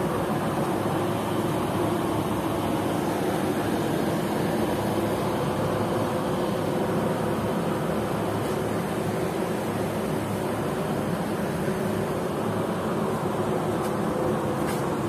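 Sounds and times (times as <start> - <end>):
ventilation hum and hiss: 0.0 - 15.0.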